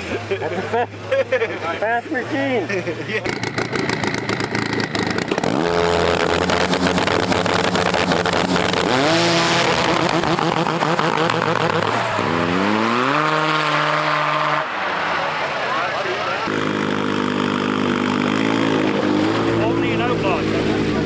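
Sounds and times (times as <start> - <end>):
snowmobile engines revving: 0.0 - 21.0.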